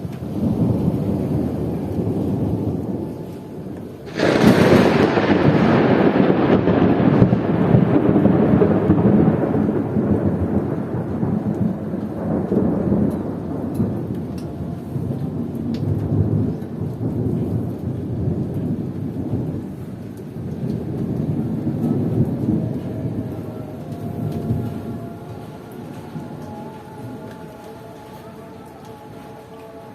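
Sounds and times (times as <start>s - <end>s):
heavy rain: 0.0s - 29.9s
thunder rumbling: 0.0s - 29.9s.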